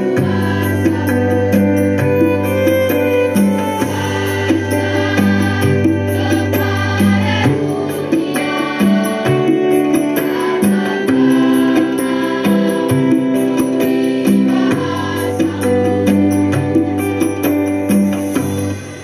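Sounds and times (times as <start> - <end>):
massed choir singing: 0.0 - 17.3
musical accompaniment: 0.0 - 19.0.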